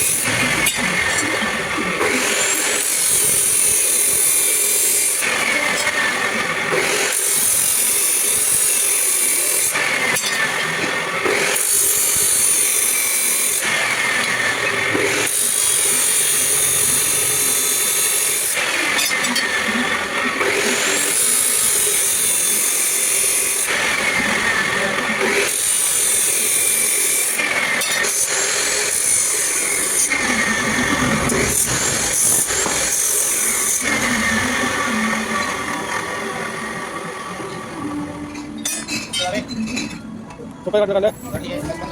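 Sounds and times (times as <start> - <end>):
power tool cutting metal: 0.0 - 40.0.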